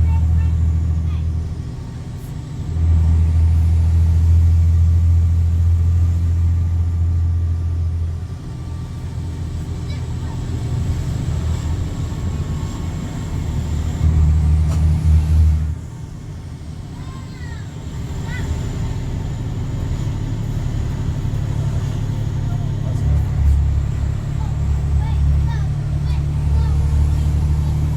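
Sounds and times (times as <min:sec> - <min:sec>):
diesel exhaust drone: 0:00.0 - 0:27.9.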